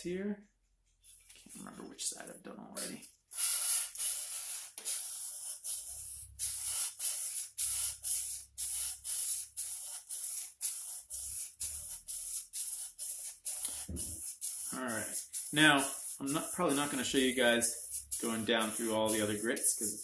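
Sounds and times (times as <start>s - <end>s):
sandpaper scratching on steel: 3.4s - 20.0s.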